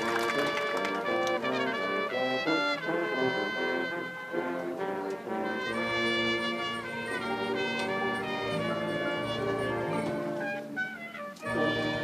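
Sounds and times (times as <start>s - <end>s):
brass band playing melody: 0.0s - 12.0s.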